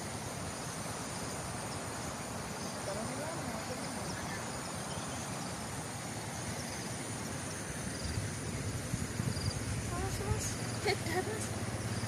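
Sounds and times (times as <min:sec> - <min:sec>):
cricket chirps: 0:00.0 - 0:12.0
insects droning: 0:00.0 - 0:12.0.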